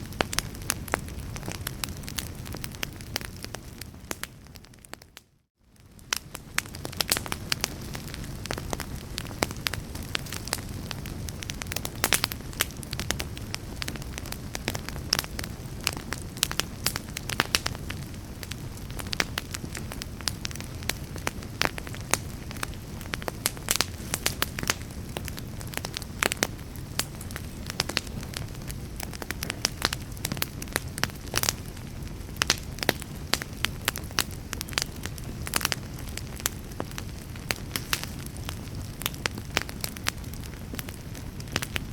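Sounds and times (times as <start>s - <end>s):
fire crackling and popping: 0.0s - 41.9s
low rumble of flames: 0.0s - 41.9s.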